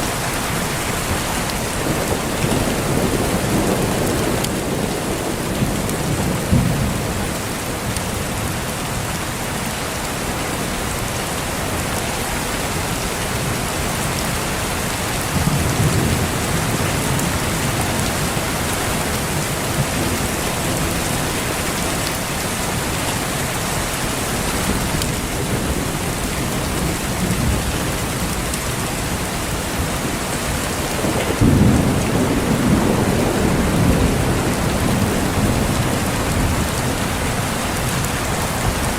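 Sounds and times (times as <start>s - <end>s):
heavy rain falling: 0.0s - 38.9s
thunder rumbling: 0.1s - 7.9s, 15.1s - 38.9s.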